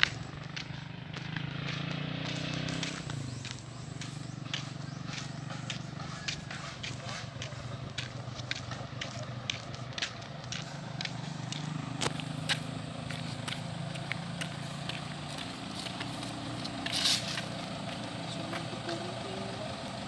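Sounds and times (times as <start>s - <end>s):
footsteps on concrete: 0.0s - 19.4s
engine idling: 0.0s - 20.0s.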